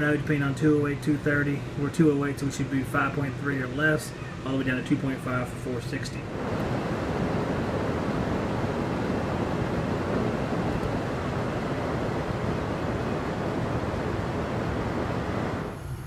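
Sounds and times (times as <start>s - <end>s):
blower air rushing: 0.0s - 16.0s.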